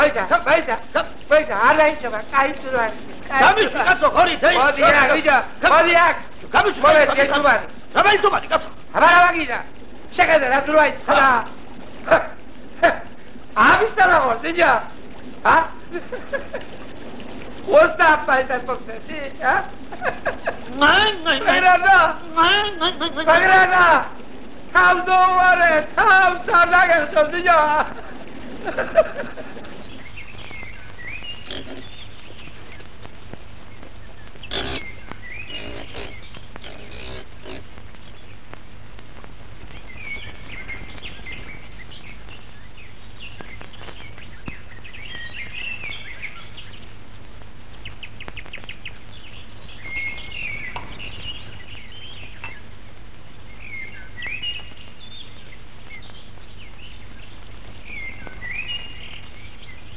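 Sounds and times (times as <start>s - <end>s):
old film soundtrack hiss: 0.0s - 59.9s
animal calls and chirps: 10.4s - 38.5s, 39.1s - 59.9s.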